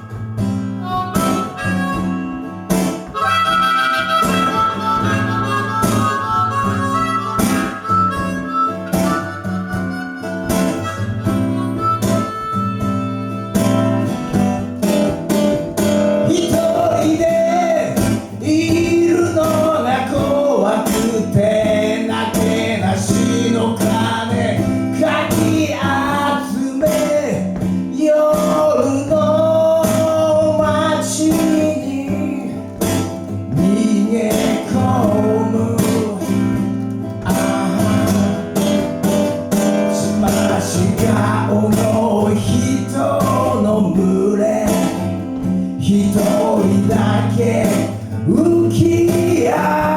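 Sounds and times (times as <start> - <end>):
bending lead guitar melody: 0.0 - 49.9
guitar chords: 0.0 - 49.9.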